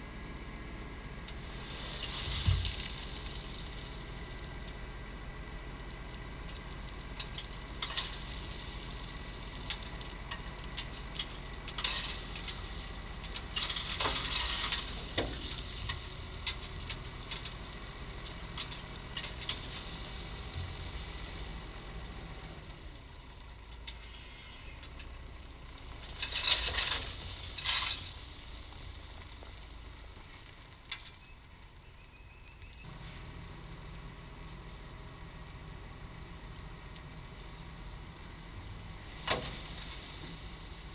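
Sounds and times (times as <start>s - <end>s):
diesel engine running: 0.0s - 30.8s, 32.9s - 40.9s
gravel clicks and scraping rattles: 1.2s - 40.9s.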